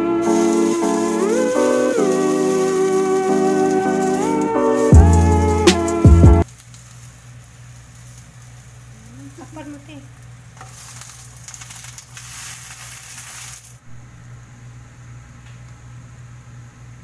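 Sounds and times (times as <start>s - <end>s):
batter sizzling in a pan: 0.2s - 13.9s.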